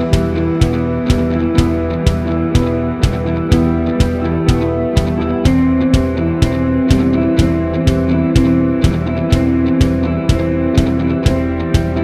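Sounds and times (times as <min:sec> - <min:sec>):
song with guitar and beat: 0:00.0 - 0:12.0.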